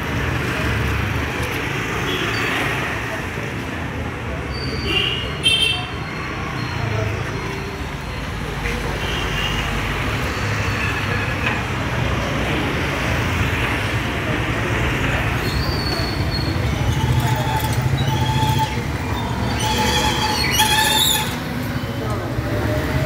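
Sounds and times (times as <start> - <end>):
low rumble of traffic: 0.0 - 23.0.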